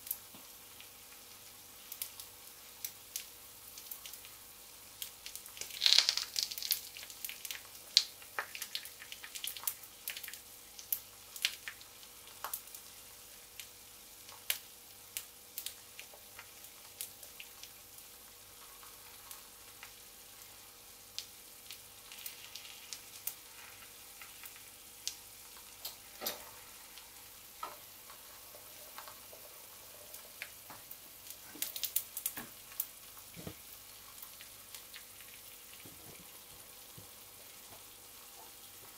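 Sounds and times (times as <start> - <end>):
egg sizzling in oil: 0.0 - 38.9.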